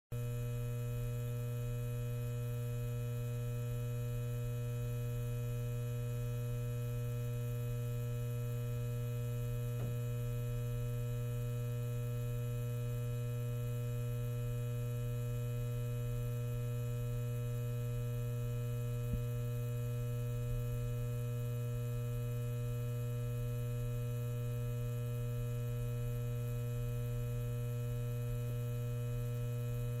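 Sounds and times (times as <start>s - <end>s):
neon sign humming and buzzing: 0.2s - 30.0s.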